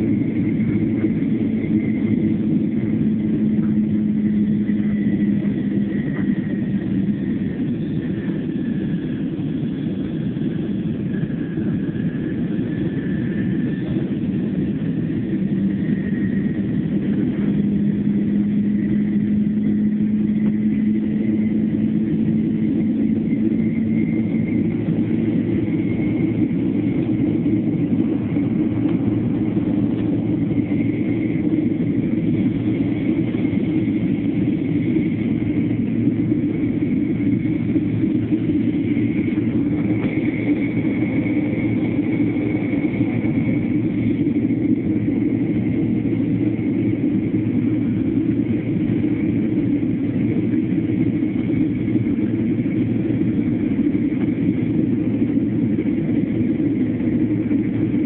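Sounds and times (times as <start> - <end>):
faint steady whine: 0.0 - 58.0
jet engines rumbling in cabin: 0.0 - 58.0.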